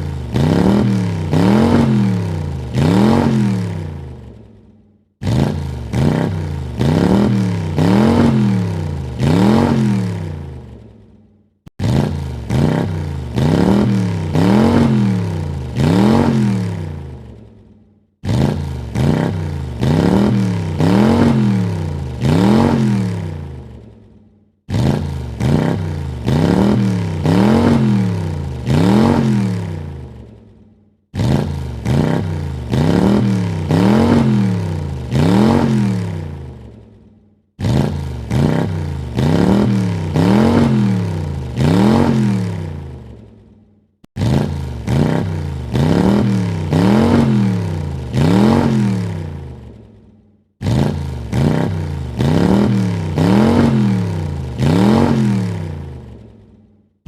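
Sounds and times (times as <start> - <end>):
car engine revving: 0.0 - 4.5, 5.2 - 10.9, 11.7 - 17.4, 18.2 - 23.9, 24.7 - 30.4, 31.1 - 36.8, 37.6 - 43.3, 44.1 - 49.8, 50.6 - 56.4.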